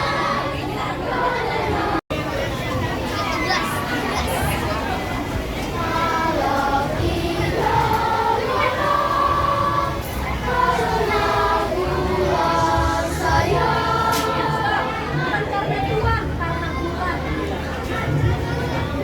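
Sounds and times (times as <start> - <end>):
children's choir singing: 0.0 - 2.3, 3.4 - 19.0.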